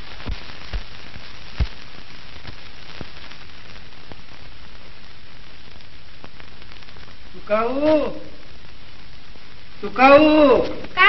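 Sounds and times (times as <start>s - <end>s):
film soundtrack hiss and crackle: 0.0s - 11.0s
scattered pops: 0.0s - 11.0s.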